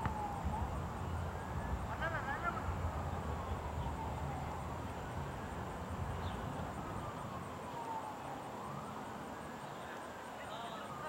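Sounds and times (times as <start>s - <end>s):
wailing siren: 0.0s - 11.0s.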